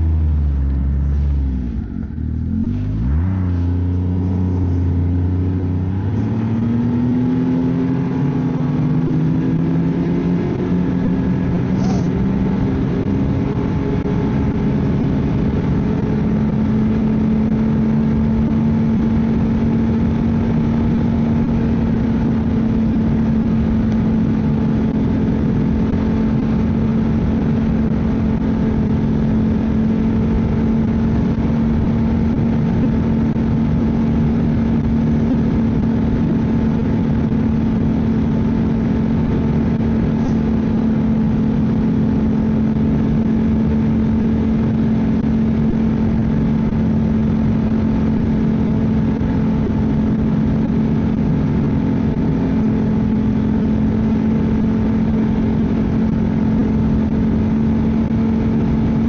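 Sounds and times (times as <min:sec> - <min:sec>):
snowmobile engine accelerating: 0:00.0 - 0:59.0.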